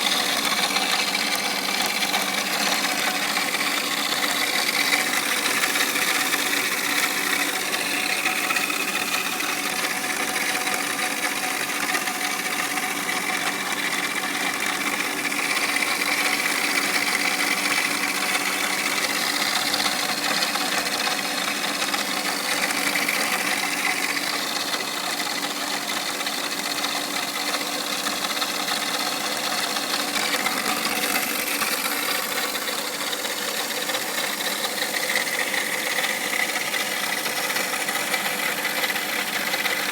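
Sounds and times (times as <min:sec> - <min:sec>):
mechanical rattle: 0:00.0 - 0:39.9.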